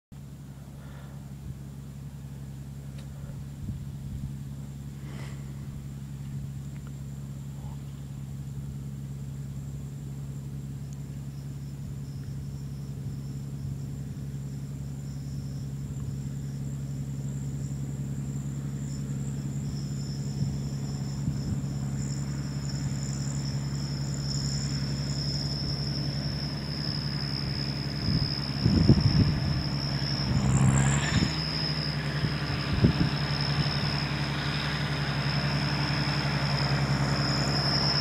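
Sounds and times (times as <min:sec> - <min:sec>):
tractor engine running: 0:00.2 - 0:38.0
high-pitched whine: 0:00.4 - 0:38.0.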